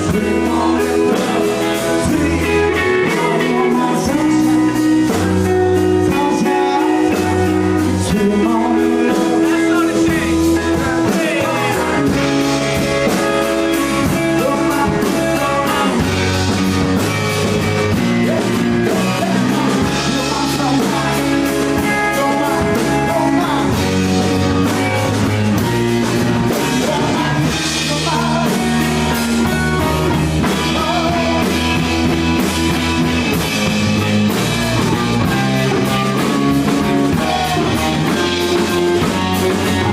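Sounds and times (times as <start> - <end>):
bass line: 0.0 - 39.9
drum kit: 0.0 - 39.9
electric guitar: 0.0 - 39.9
person singing: 0.0 - 39.9.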